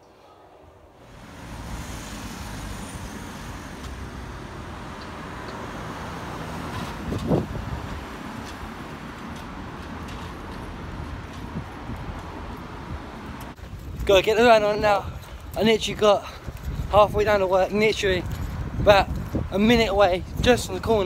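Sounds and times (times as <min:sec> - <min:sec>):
road traffic rumble: 0:01.0 - 0:21.0.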